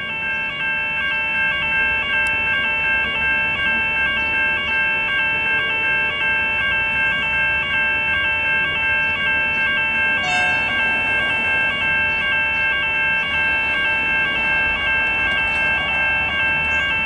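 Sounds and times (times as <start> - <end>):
railway crossing warning bell: 0.0 - 17.0.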